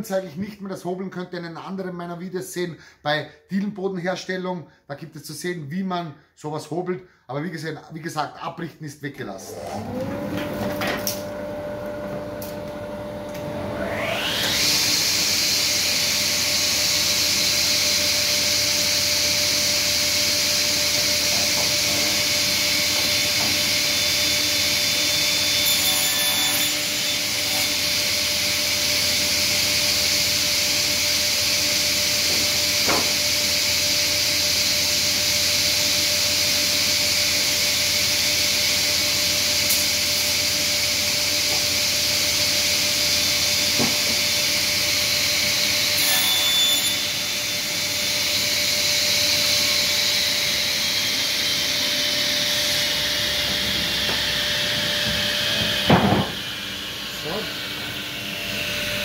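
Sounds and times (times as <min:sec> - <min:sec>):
panel saw cutting board: 0:09.5 - 0:59.0.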